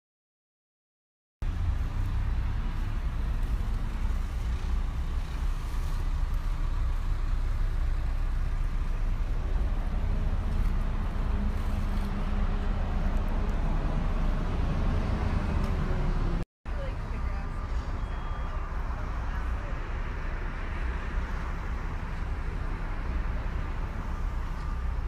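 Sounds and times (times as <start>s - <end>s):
low rumbling noise: 1.4s - 25.0s.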